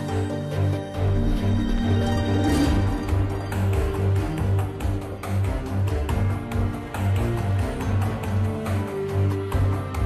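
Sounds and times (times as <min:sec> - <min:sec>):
music with pulsing bass beat: 0:00.0 - 0:10.0.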